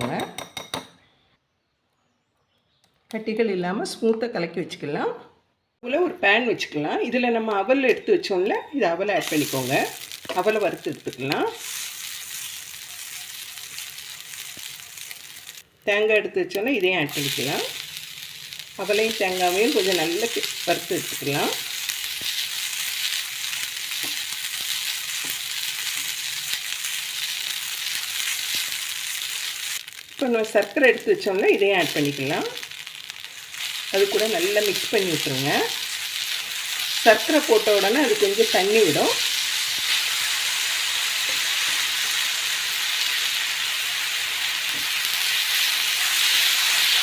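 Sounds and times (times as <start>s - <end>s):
food sizzling in a pan: 9.1s - 47.0s.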